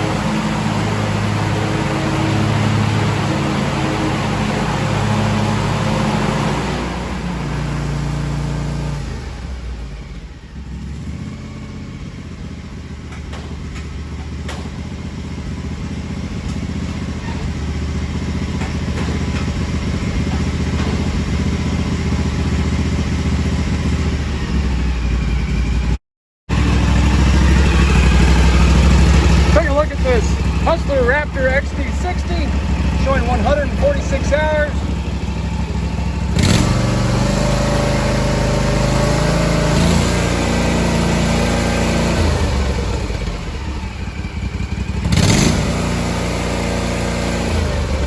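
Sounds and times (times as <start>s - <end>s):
mower engine running: 0.0s - 48.0s.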